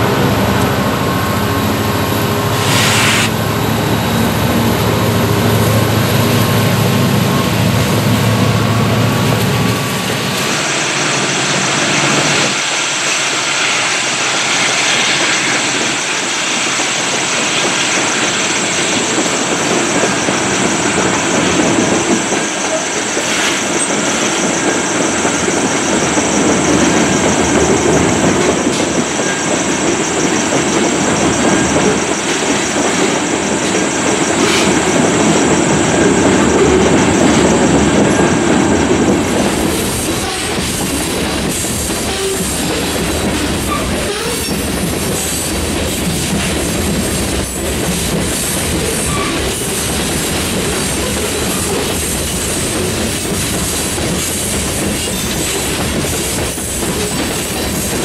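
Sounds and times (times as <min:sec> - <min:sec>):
train wheels clattering on rails: 0:03.4 - 0:58.0.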